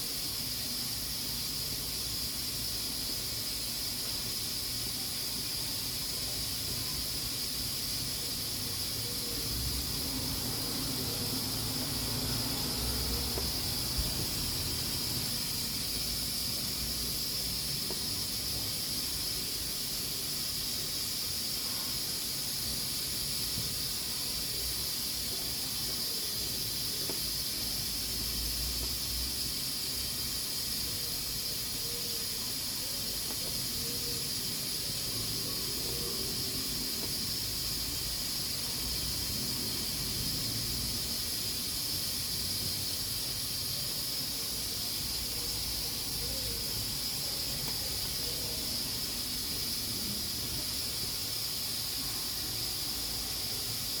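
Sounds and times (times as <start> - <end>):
pressure cooker steam hissing: 0.0 - 54.0.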